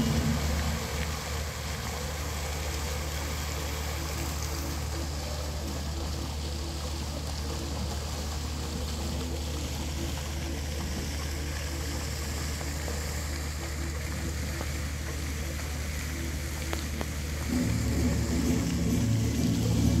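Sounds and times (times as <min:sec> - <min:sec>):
fountain jets splashing: 0:00.0 - 0:20.0
low steady hum: 0:00.0 - 0:20.0.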